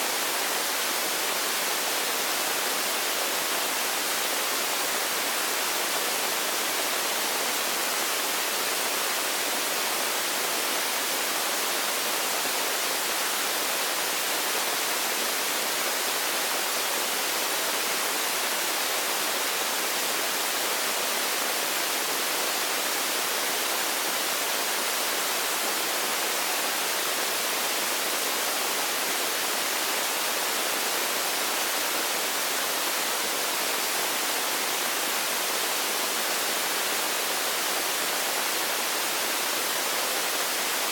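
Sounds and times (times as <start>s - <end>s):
steady static hiss: 0.0s - 40.9s.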